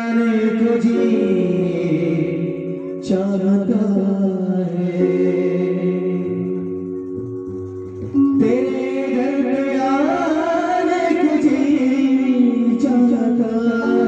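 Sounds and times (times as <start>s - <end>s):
devotional music over loudspeakers: 0.0s - 14.0s
person singing: 0.0s - 14.0s.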